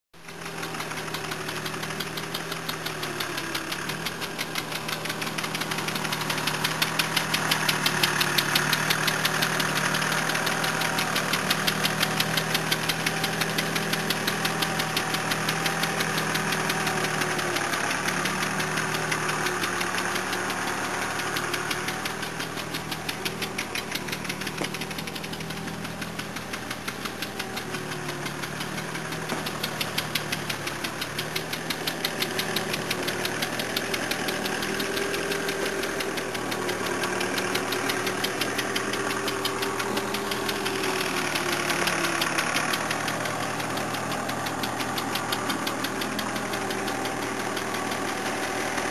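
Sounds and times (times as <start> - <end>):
engine running with rapid knock: 0.2 - 48.9.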